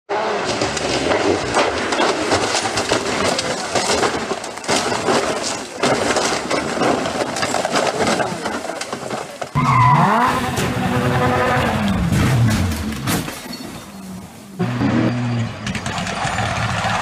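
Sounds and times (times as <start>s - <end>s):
bodywork scraping on road: 0.1s - 17.0s
cars crashing and rolling over: 0.1s - 17.0s.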